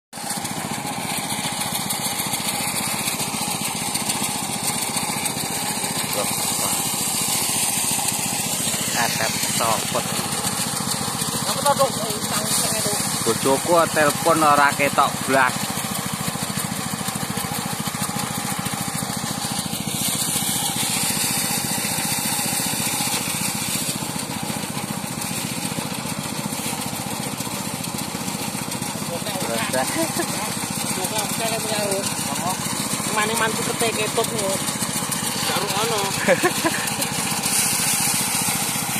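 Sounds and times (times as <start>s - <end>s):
rice thresher running: 0.1s - 38.9s
small engine chugging: 0.2s - 38.9s.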